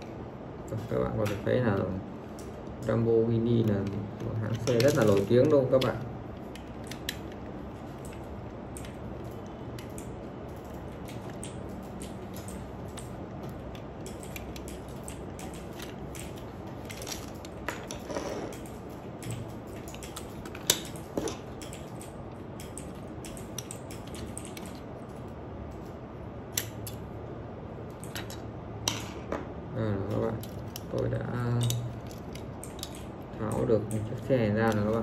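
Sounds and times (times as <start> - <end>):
room noise: 0.0 - 35.0.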